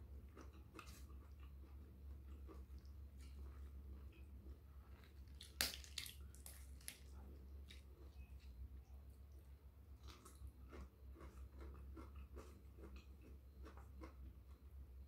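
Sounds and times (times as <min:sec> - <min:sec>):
person chewing: 0:00.2 - 0:14.6.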